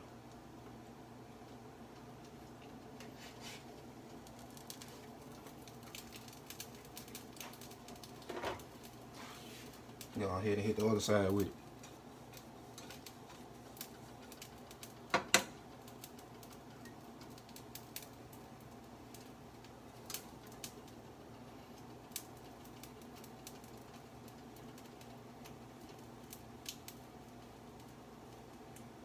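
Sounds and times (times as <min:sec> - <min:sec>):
low steady hum: 0:00.0 - 0:29.0
sandwich frying crackles and pops: 0:00.0 - 0:29.0.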